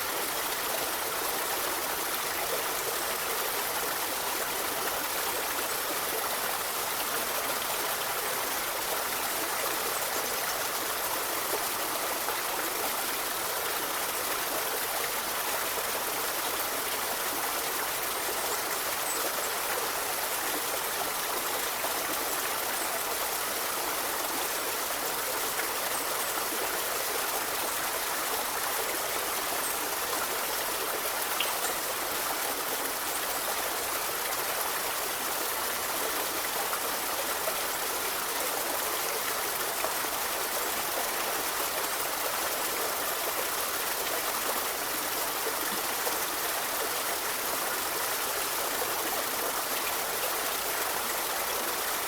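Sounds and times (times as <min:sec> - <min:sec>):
stream water rushing and babbling: 0:00.0 - 0:52.0.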